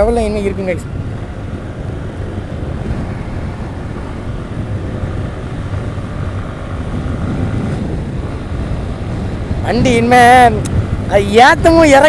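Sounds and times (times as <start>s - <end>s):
motorcycle engine rumble: 0.0s - 12.0s
wind noise on microphone: 0.0s - 12.0s.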